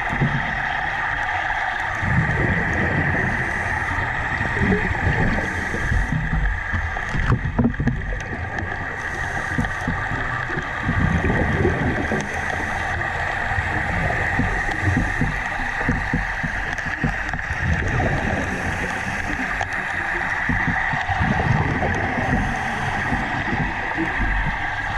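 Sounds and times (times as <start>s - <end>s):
low gurgling bubbling: 0.0s - 24.9s
underwater air hiss: 2.1s - 6.4s, 8.9s - 24.9s.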